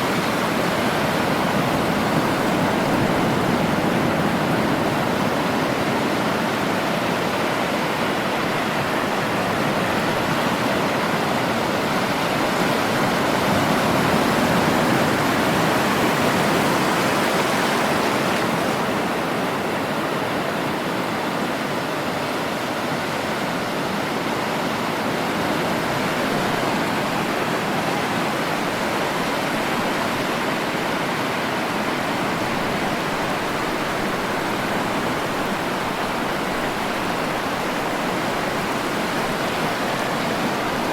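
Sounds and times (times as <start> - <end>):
sea surf washing ashore: 0.0 - 40.9.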